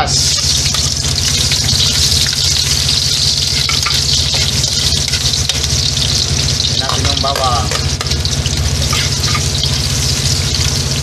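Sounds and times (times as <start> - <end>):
onions sizzling in oil: 0.0 - 11.0
steady low hum: 0.0 - 11.0
metal spoon stirring in wok: 0.2 - 10.6.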